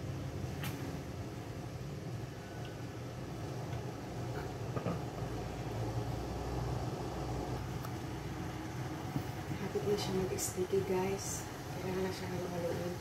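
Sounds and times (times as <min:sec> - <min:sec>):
exhaust fan whirring: 0:00.0 - 0:13.0.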